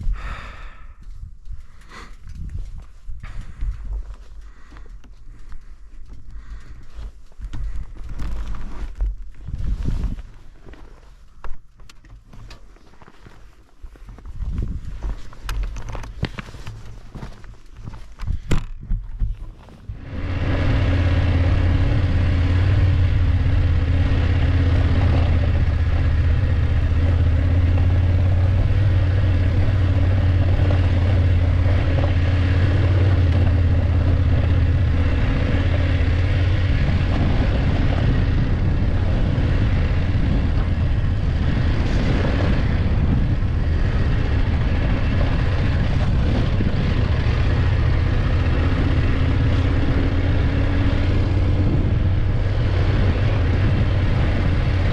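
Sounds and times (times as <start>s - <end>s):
motorcycle engine running: 0.0s - 10.8s, 14.2s - 54.9s.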